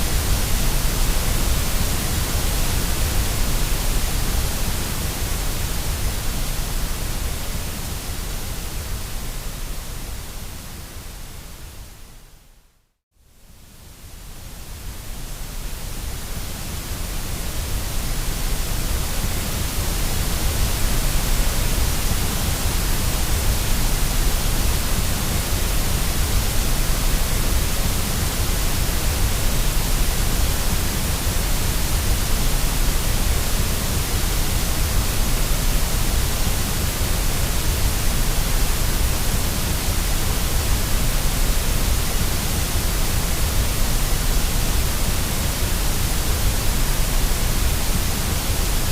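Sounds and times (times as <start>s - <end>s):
white noise hiss: 0.0s - 48.9s.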